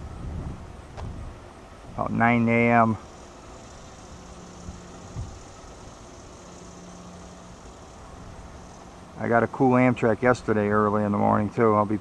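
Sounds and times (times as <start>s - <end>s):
distant diesel locomotive rumble: 0.0s - 12.0s.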